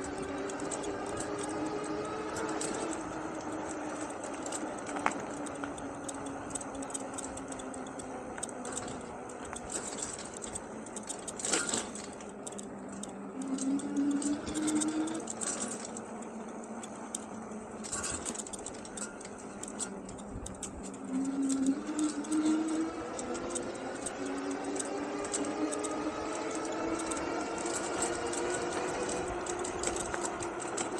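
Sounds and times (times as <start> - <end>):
bike frame rattling: 0.0 - 30.9
e-bike motor whirring: 0.0 - 30.9.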